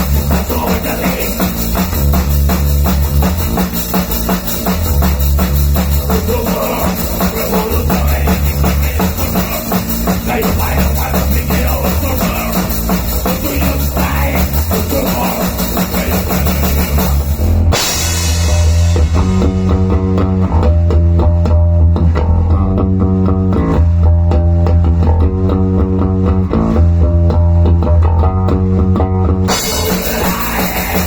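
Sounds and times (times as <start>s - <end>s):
drum kit playing fast: 0.0s - 31.0s
electric bass: 0.0s - 31.0s.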